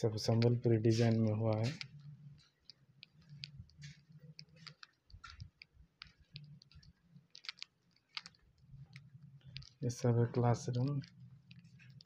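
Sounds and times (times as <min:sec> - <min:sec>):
faint clicks and light taps: 0:00.0 - 0:12.0.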